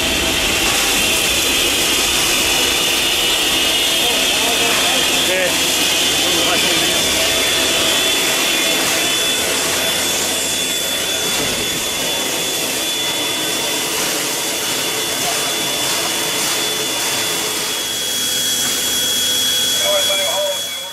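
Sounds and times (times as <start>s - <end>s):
steam hissing: 0.0s - 20.8s.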